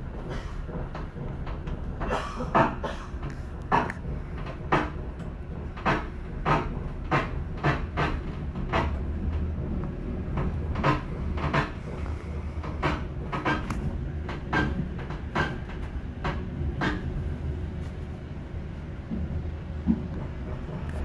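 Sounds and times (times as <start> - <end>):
train rumbling: 0.0 - 21.0
train wheels clacking: 0.0 - 21.0.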